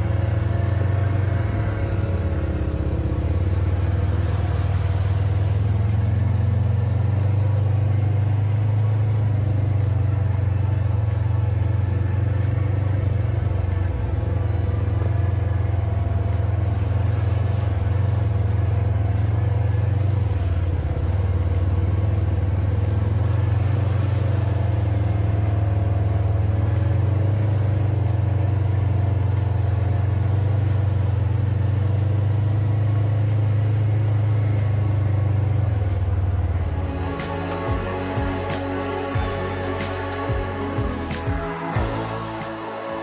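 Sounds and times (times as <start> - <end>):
utility vehicle engine droning: 0.0 - 43.0.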